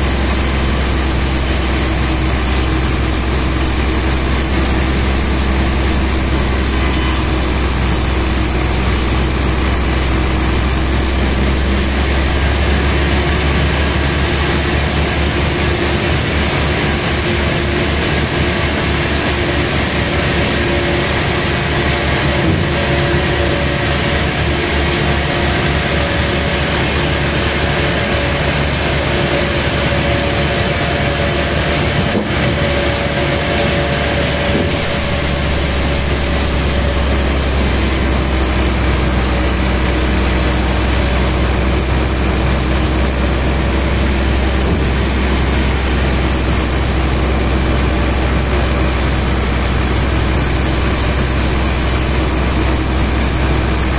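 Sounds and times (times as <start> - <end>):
sawmill machinery drone: 0.0 - 53.9.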